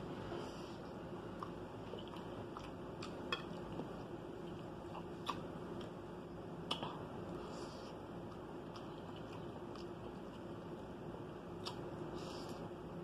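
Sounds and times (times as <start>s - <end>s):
low steady hum: 0.0s - 13.0s
person chewing rice: 1.2s - 6.0s, 6.7s - 12.7s.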